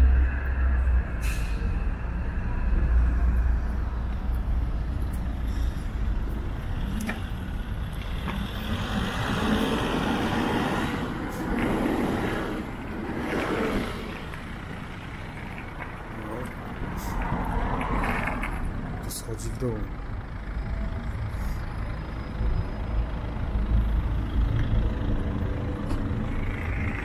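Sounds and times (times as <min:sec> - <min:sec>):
low traffic rumble: 0:00.0 - 0:27.0
vehicles driving past: 0:00.0 - 0:27.0.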